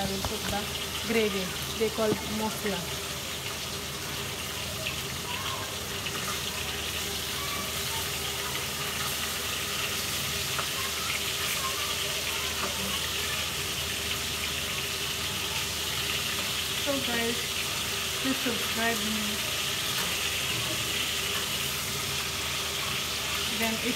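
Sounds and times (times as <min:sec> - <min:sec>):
fish sizzling in oil: 0:00.0 - 0:23.9.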